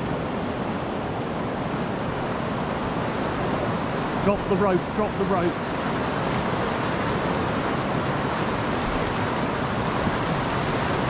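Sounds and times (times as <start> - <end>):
river rapids roaring: 0.0 - 11.0.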